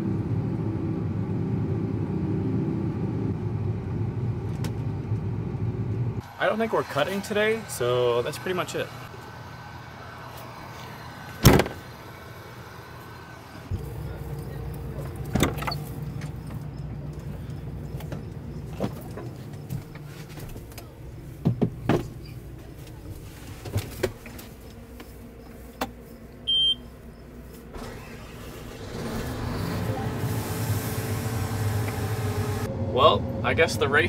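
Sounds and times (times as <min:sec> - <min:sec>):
combine harvester engine running: 0:00.0 - 0:33.9.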